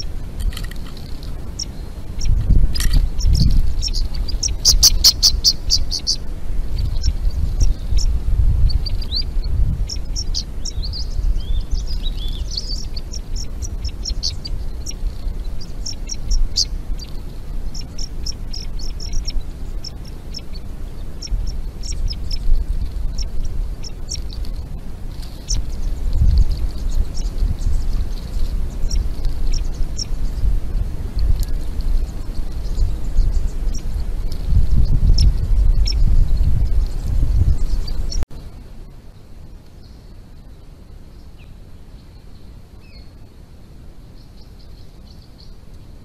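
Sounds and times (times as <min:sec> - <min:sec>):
low rumble: 0:00.0 - 0:38.3
small birds chirping: 0:00.0 - 0:46.0.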